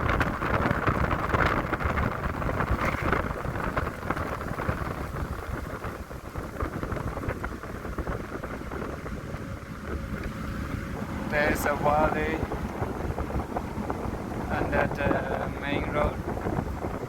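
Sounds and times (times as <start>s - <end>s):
car road noise: 0.0s - 17.0s
wind buffeting microphone: 0.0s - 17.0s.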